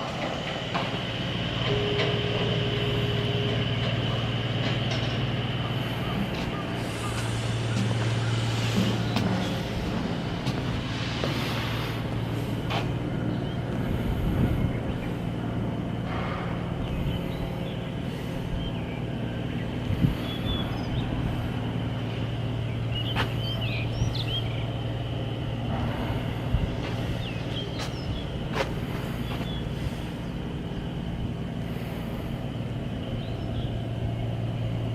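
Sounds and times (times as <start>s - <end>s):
machinery humming: 0.0s - 34.9s.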